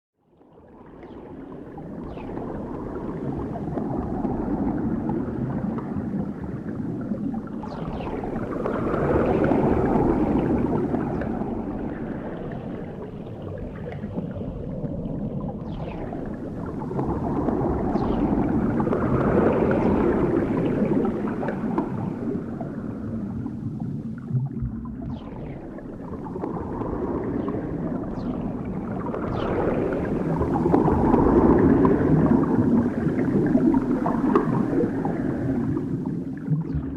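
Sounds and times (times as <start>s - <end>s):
underwater bubbling and gurgling: 0.3s - 36.9s.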